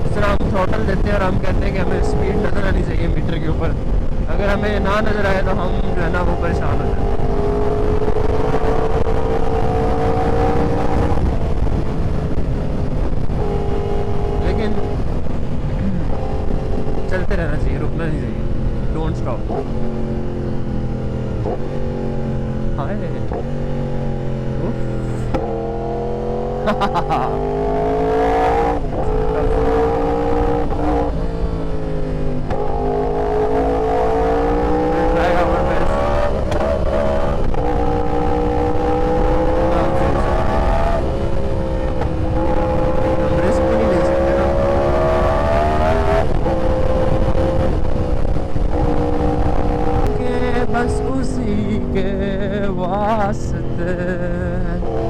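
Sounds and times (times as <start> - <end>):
low wind rumble: 0.0 - 55.0
motorcycle engine revving: 0.0 - 55.0.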